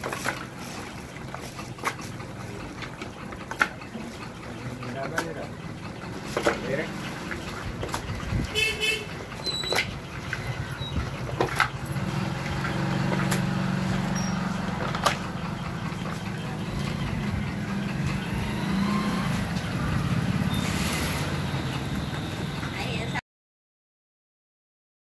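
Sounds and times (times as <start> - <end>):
engine idling: 0.0 - 23.1.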